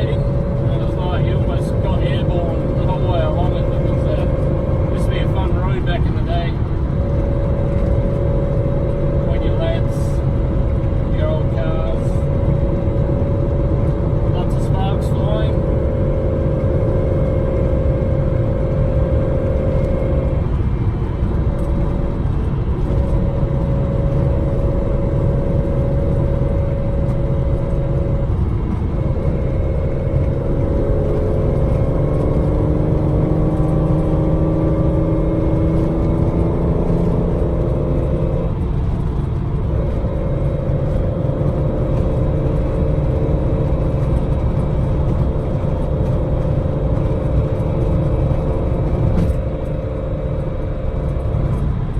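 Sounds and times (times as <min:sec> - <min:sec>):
car engine running while driving: 0:00.0 - 0:51.9.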